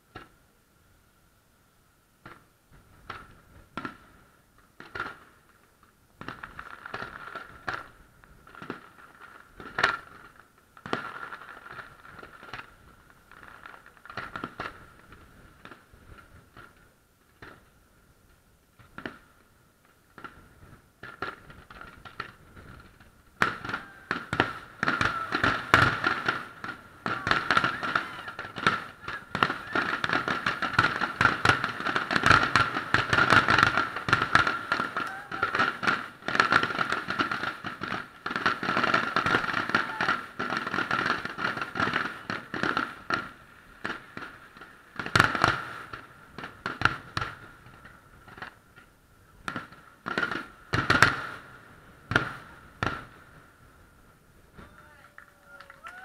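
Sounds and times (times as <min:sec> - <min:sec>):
fireworks bursts and crackling: 0:00.0 - 0:00.8, 0:02.0 - 0:56.0.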